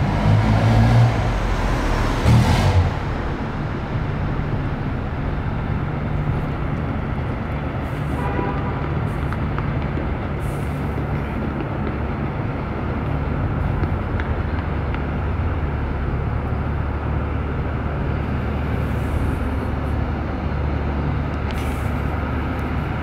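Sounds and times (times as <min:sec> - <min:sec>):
truck engine rumbling: 0:00.0 - 0:23.0.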